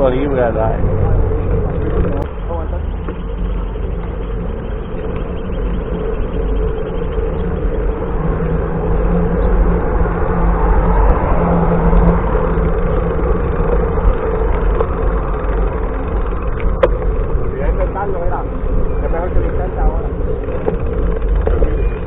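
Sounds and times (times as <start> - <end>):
bicycle road noise: 0.0 - 22.0
wind rush: 0.0 - 22.0.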